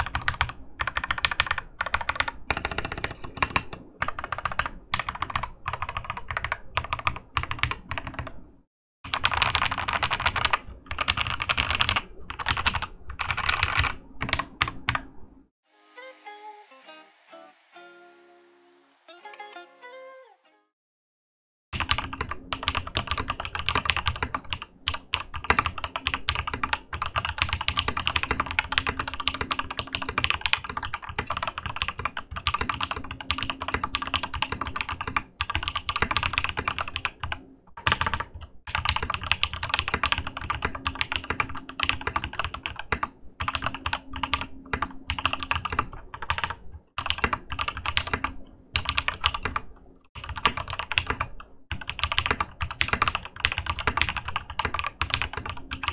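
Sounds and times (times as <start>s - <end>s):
mechanical keyboard typing: 0.0s - 8.4s, 9.1s - 15.1s, 21.8s - 55.9s.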